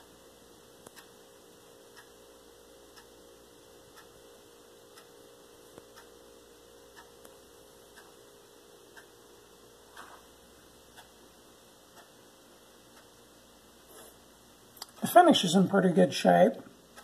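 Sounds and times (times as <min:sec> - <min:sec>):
light ticking: 0:00.0 - 0:13.8, 0:14.4 - 0:15.6, 0:16.5 - 0:17.0
steady hiss: 0:00.0 - 0:17.0.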